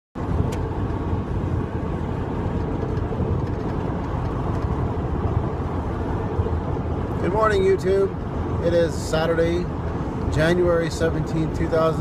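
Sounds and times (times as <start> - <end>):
truck engine and road rumble: 0.2 - 12.0.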